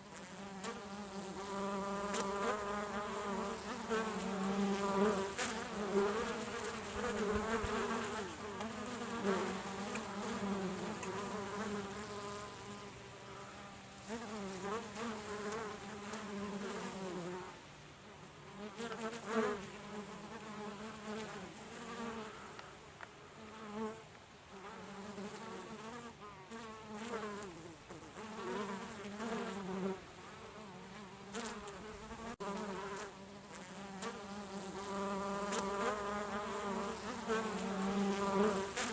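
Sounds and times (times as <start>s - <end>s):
honeybees buzzing: 0.0s - 17.4s, 24.9s - 38.9s.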